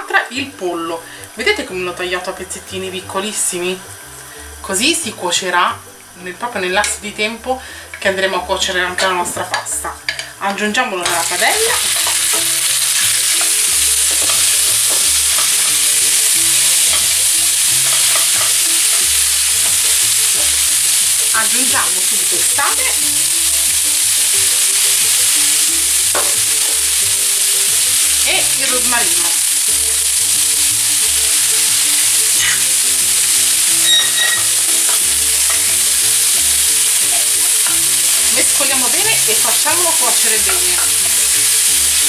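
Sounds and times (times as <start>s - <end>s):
chicken sizzling in frying pan: 0.0s - 42.0s.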